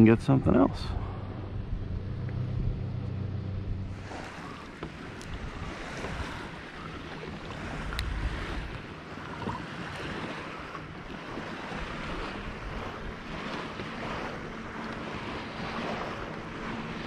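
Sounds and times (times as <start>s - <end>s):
water lapping: 0.0s - 17.0s
wind on microphone: 0.0s - 17.0s.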